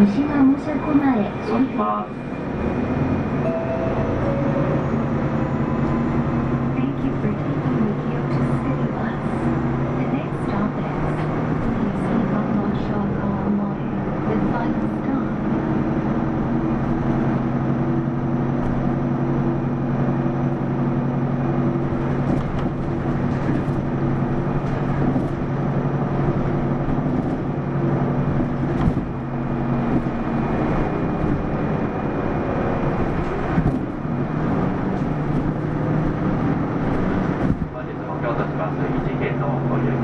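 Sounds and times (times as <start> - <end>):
bus diesel engine hum: 0.0 - 40.0.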